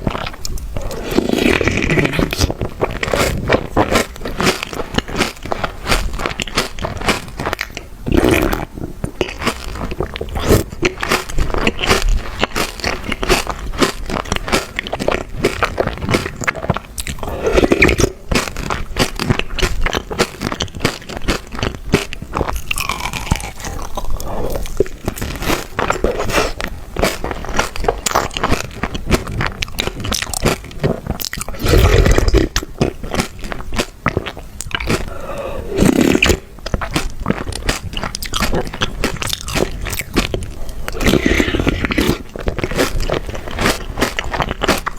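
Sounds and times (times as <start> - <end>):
chewing chocolate crunching: 0.0 - 44.9.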